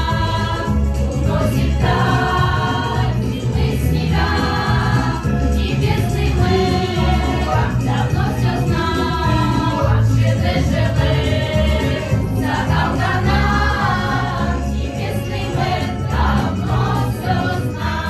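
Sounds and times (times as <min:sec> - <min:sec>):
choir singing: 0:00.0 - 0:18.0
instrumental accompaniment with beat: 0:00.0 - 0:18.0.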